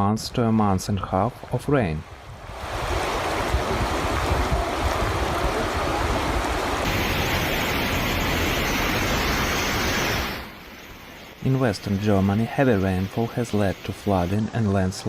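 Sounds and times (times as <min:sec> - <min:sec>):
roar of rushing floodwater: 0:01.3 - 0:15.0.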